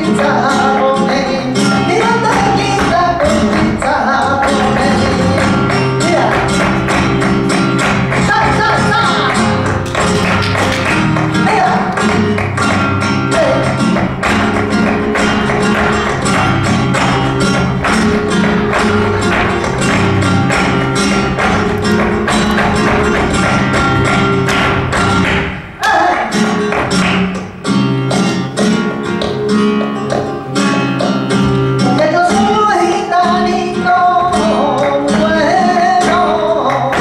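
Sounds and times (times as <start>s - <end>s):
flamenco guitar music: 0.0s - 37.0s.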